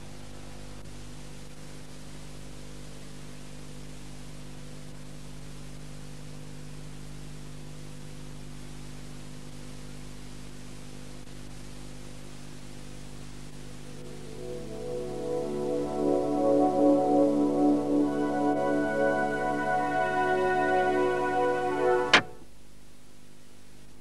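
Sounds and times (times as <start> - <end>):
low electrical hum: 0.0 - 24.0
tape hiss: 0.0 - 24.0.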